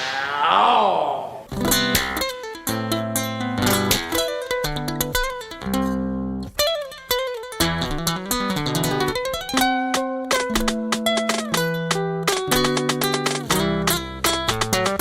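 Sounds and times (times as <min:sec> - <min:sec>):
plucked guitar instrumental music: 0:01.5 - 0:15.0.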